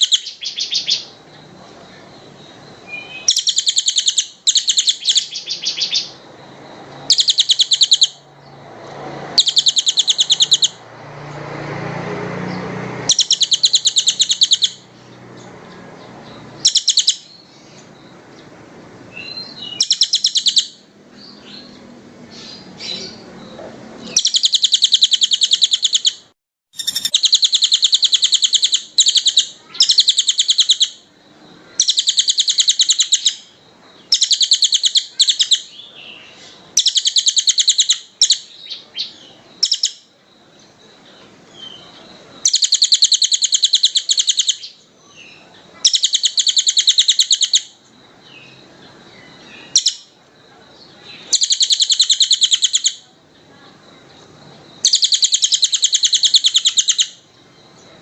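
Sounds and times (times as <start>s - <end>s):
songbird singing rapid trills: 0.0s - 58.0s.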